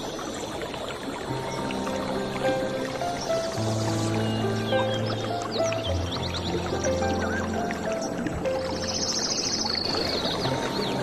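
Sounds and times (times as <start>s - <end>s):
instrumental background music: 1.3s - 11.0s.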